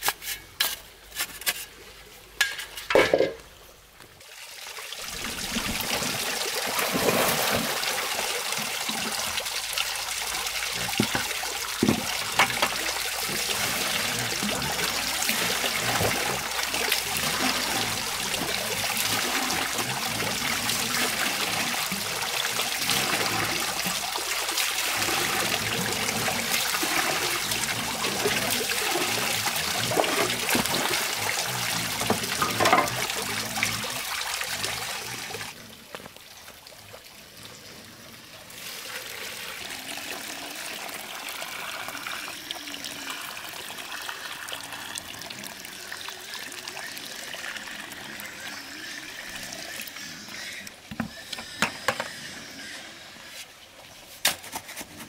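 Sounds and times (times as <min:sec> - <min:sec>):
water running and trickling: 0:04.2 - 0:54.8.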